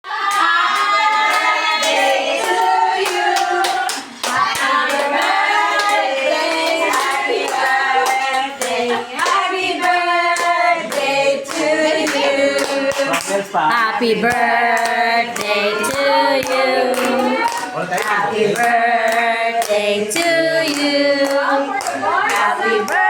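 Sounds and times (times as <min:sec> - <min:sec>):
group of people singing: 0:00.0 - 0:23.0
hands clapping in rhythm: 0:00.2 - 0:23.0.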